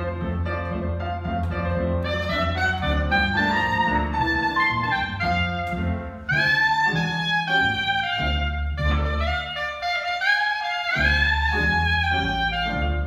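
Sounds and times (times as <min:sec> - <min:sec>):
plucked double bass: 0:00.0 - 0:10.0, 0:11.0 - 0:13.0
clarinet melody: 0:00.0 - 0:13.0
piano: 0:00.0 - 0:13.0.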